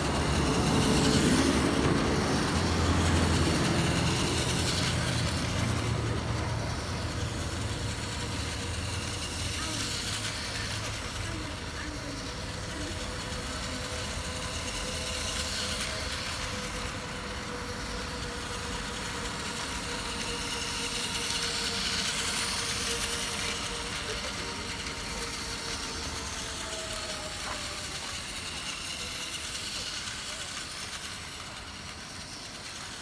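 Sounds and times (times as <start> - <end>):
toy train motor whine: 0.0 - 33.0
traffic noise: 0.0 - 33.0.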